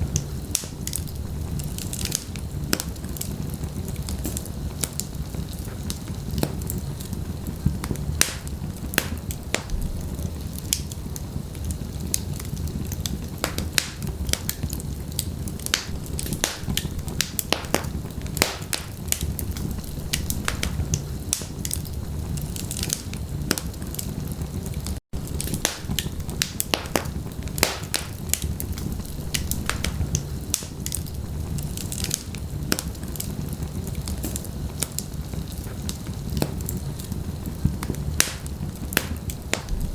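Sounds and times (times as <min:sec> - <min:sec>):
fire rumbling: 0:00.0 - 0:39.9
wood crackling and popping: 0:00.0 - 0:39.9.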